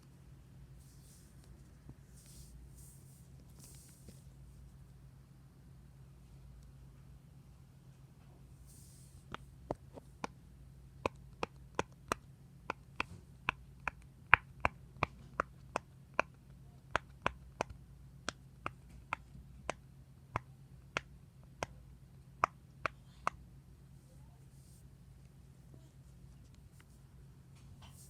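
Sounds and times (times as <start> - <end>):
faint steady low hum: 0.0 - 28.0.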